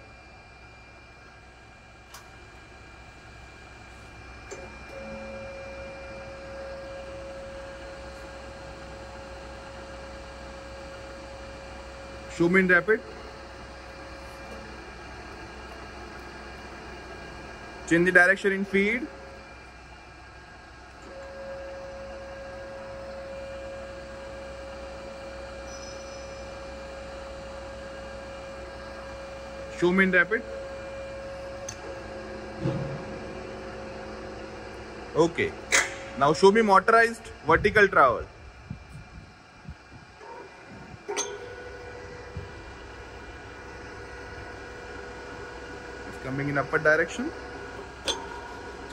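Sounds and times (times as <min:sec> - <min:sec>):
constant low hum: 0:00.0 - 0:48.9
milling machine feed whine: 0:00.0 - 0:48.9.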